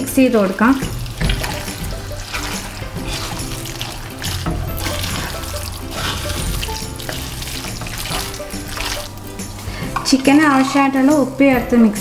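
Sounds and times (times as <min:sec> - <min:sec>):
wooden spatula stirring chicken in pot: 0:00.0 - 0:11.5
background music: 0:00.0 - 0:12.0.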